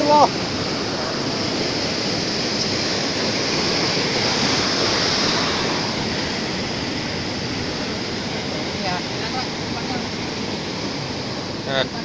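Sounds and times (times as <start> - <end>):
sea waves rushing: 0.0 - 12.0
wind buffeting microphone: 0.0 - 12.0.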